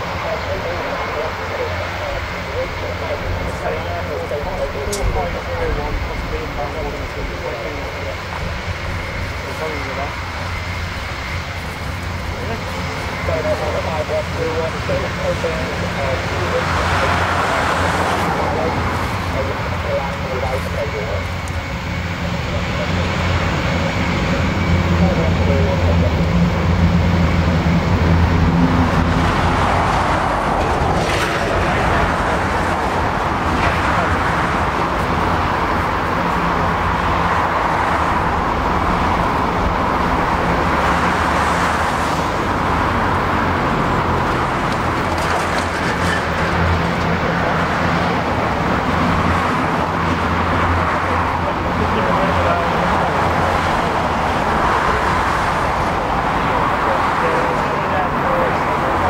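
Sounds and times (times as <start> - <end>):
aircraft engine rush: 0.0 - 59.0
propeller hum: 0.0 - 59.0.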